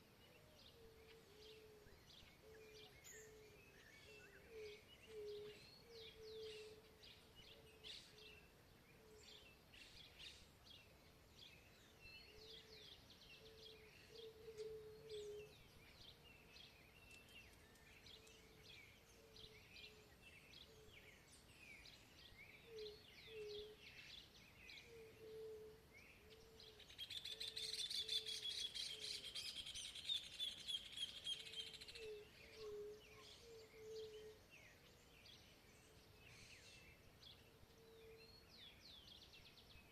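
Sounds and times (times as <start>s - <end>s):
wild birds singing and chirping: 0.0s - 39.9s.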